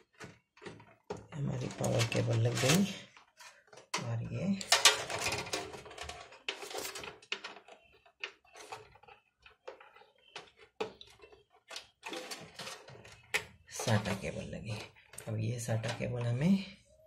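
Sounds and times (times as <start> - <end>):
cables clicking against metal case: 0.0 - 16.4.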